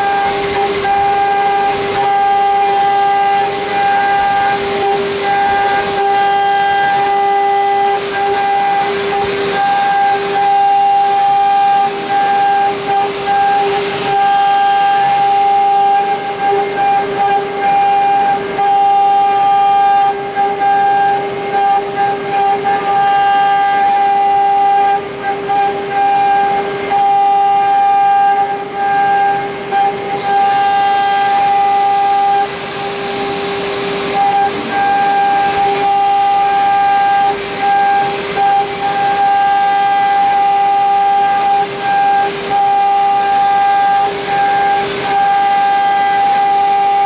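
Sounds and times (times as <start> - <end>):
cutter engraving metal hiss: 0.0 - 47.0
spindle high-pitched whine: 0.0 - 47.0.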